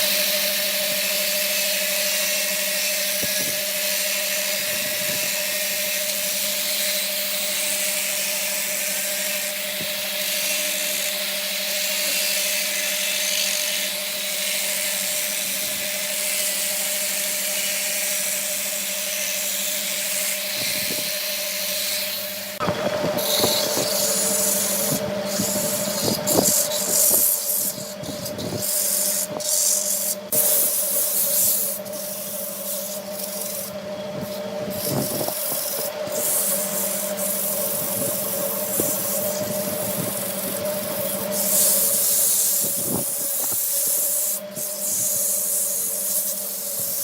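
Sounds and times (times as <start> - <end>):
hiss of spinning wood worked: 0.0 - 47.0
wood lathe motor hum: 0.0 - 47.0.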